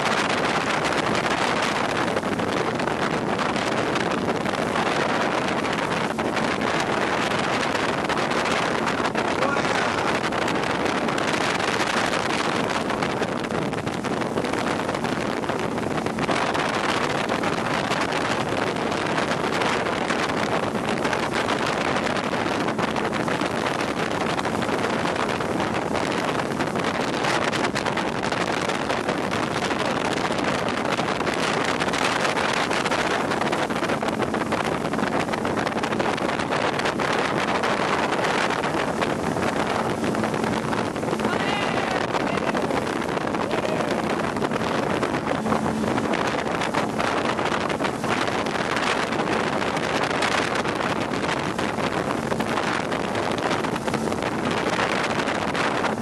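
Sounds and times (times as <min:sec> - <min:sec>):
boat engine running: 0:00.0 - 0:56.0
wind buffeting microphone: 0:00.0 - 0:56.0.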